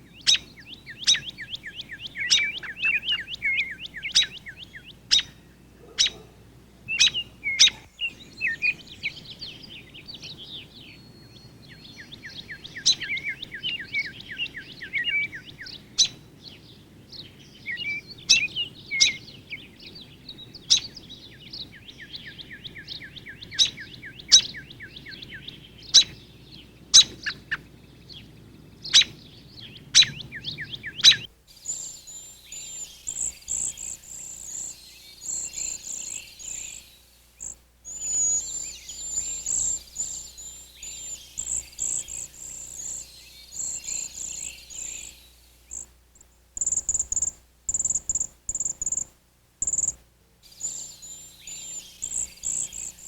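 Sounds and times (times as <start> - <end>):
songbird trills: 0.0 - 53.0.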